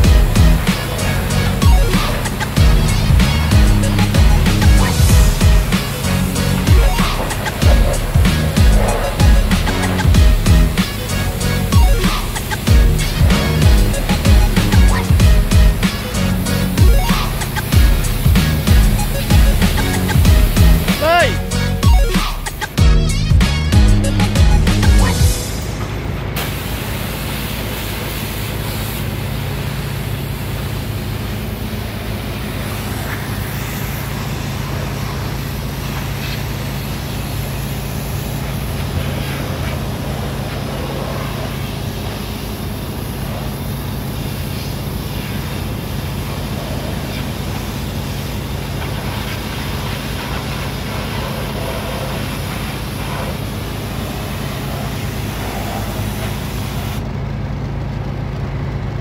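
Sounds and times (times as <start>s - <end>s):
high-pressure water spray hissing: 0.0s - 57.0s
machinery droning: 0.0s - 59.0s.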